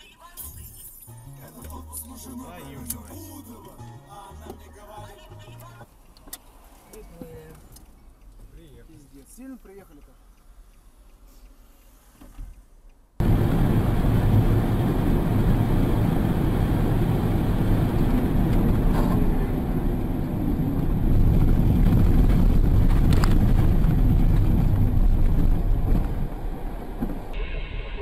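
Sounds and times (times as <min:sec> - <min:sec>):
road and wind noise in car: 0:01.1 - 0:28.0.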